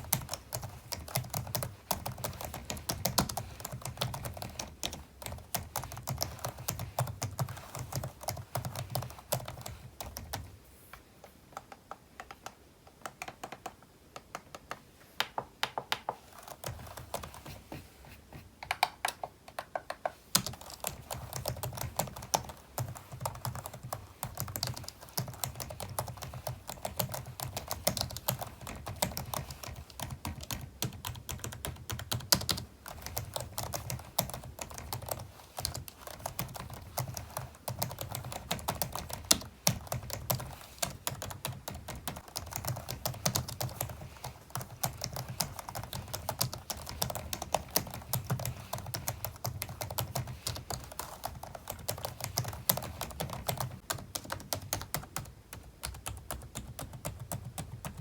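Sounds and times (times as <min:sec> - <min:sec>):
typing on computer keyboard: 0:00.0 - 0:10.5, 0:18.6 - 0:58.0.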